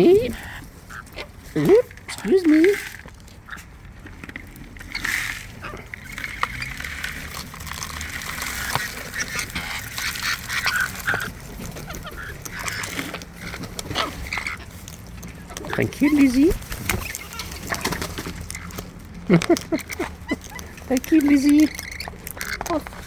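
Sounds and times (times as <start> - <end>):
parrots squawking and chattering: 0.0 - 23.0
beaks pecking clicks: 4.3 - 23.0.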